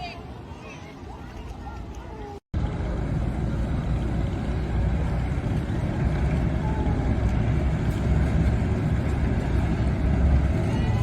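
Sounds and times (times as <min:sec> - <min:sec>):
diesel engine rumbling: 0:01.7 - 0:11.0.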